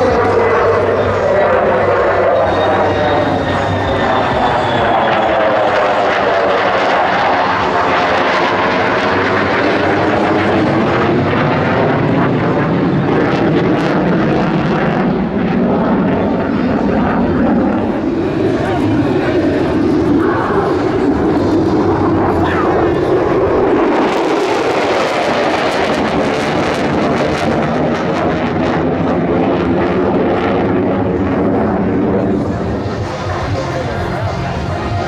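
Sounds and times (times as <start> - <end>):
jet roar passing: 0.0 - 35.0.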